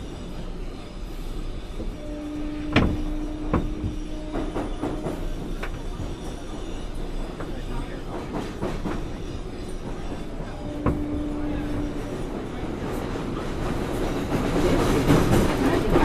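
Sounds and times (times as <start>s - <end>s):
wheels rumbling on rail: 0.0s - 16.0s
rail-joint clicks: 1.6s - 16.0s.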